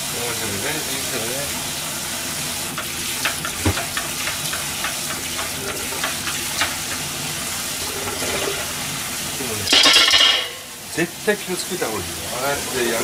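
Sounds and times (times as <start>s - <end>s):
chicken wings sizzling in a pan: 0.0s - 13.0s.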